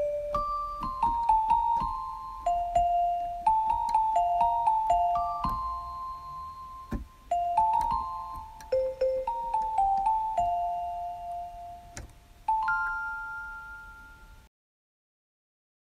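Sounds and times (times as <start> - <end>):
slow bell-like melody: 0.0 - 14.5.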